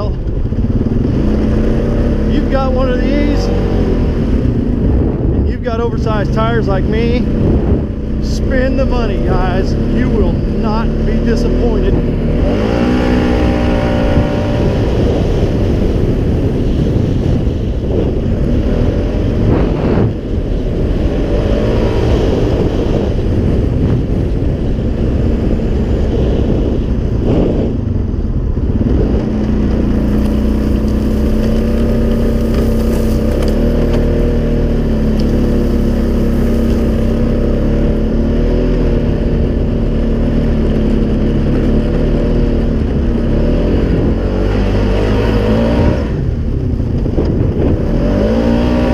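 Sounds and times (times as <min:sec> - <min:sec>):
atv engine running under load: 0:00.0 - 0:48.9.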